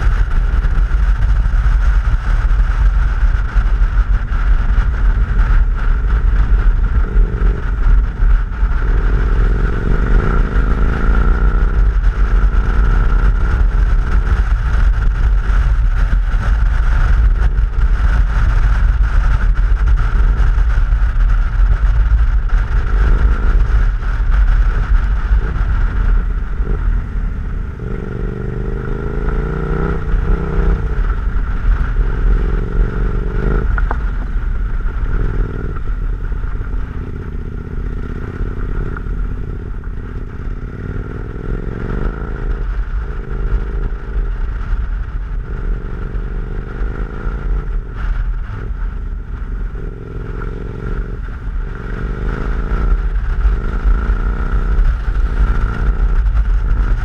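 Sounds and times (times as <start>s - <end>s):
motorcycle engine revving: 0.0s - 57.0s
wind rumble on microphone: 0.0s - 57.0s.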